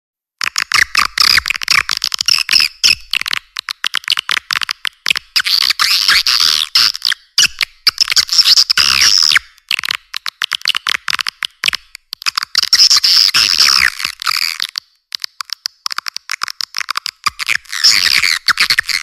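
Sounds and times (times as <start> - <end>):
sharp clicks: 0.4 - 19.0.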